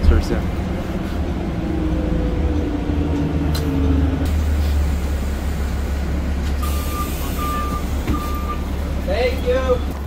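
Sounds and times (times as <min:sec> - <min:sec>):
bus engine rumble: 0:00.0 - 0:10.0
bus whine: 0:00.0 - 0:10.0.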